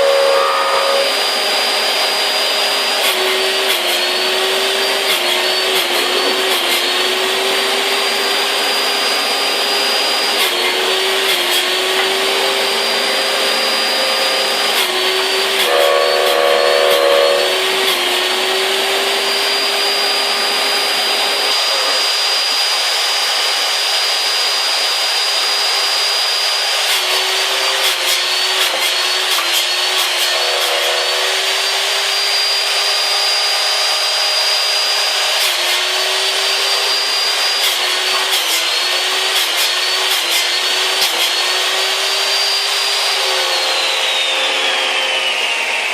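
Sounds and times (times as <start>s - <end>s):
electric wood-cutting machine whine: 0.0s - 45.9s.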